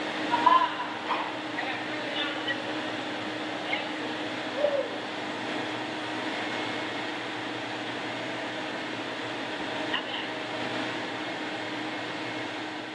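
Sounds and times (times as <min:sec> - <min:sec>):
workshop machinery humming: 0:00.0 - 0:12.9.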